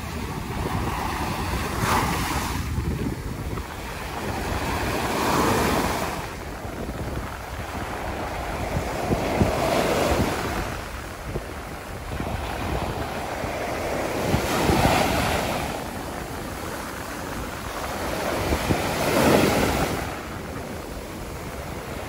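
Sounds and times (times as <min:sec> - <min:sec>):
waves breaking on beach: 0:00.0 - 0:22.0
wind rumbling on microphone: 0:00.0 - 0:22.0.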